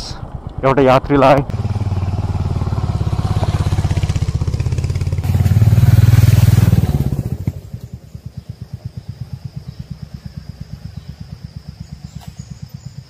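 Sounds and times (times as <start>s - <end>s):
motorcycle engine running: 1.3s - 13.0s.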